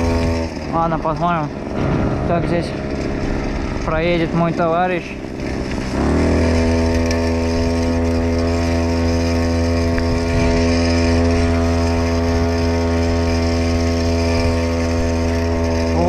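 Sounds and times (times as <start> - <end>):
small bicycle engine running: 0.0 - 16.0.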